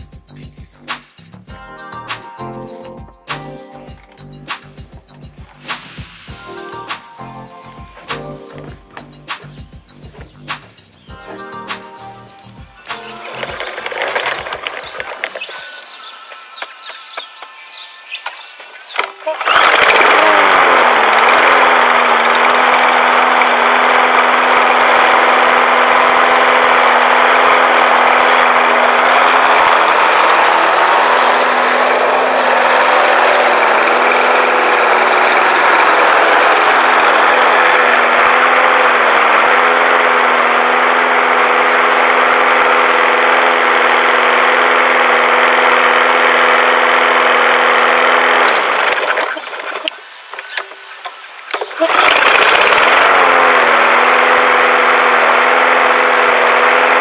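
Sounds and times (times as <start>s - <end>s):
lawn mower engine running: 0.0s - 16.1s, 18.9s - 57.0s.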